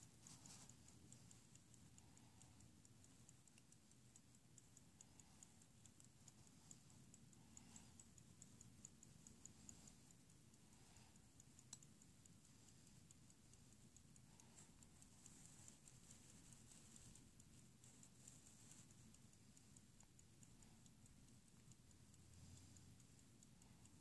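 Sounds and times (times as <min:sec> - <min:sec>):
pocket watch ticking faintly: 0:00.0 - 0:24.0.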